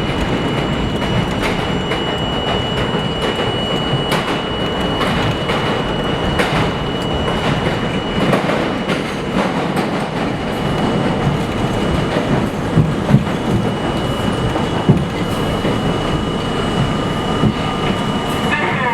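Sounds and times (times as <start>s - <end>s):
subway train rumbling: 0.0s - 18.9s
wheels clattering over rail joints: 0.0s - 18.9s
thin high whine: 0.4s - 18.9s.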